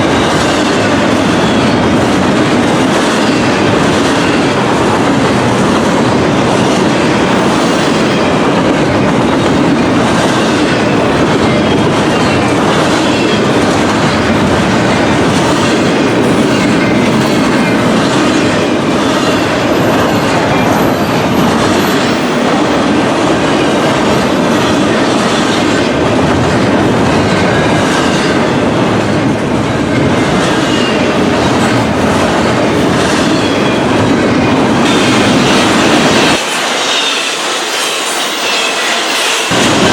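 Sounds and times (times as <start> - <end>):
clickety-clack of rail joints: 0.0 - 39.9
train wheels rumbling on rails: 0.0 - 39.9.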